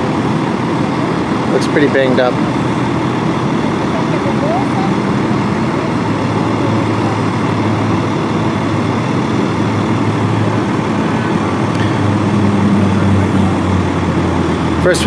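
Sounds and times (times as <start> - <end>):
road traffic noise: 0.0 - 15.0
vehicle engines idling: 0.0 - 15.0.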